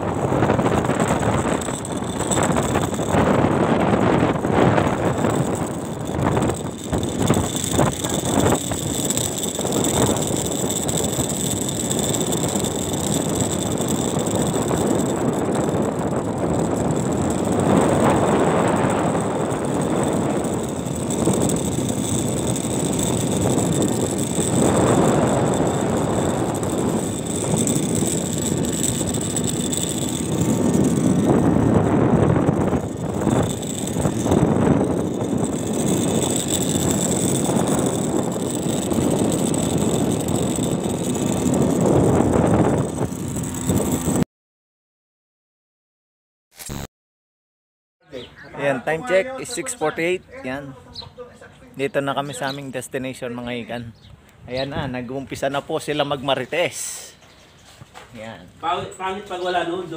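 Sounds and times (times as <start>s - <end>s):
wind buffeting microphone: 0.0s - 44.2s, 48.2s - 59.9s.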